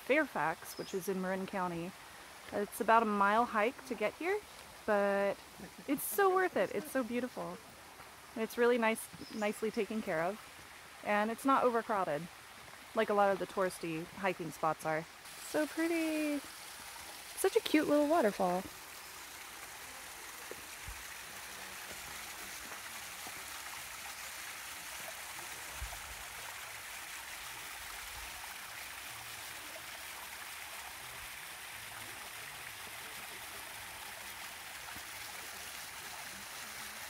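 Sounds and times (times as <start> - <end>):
small waterfall trickling: 0.0 - 37.0.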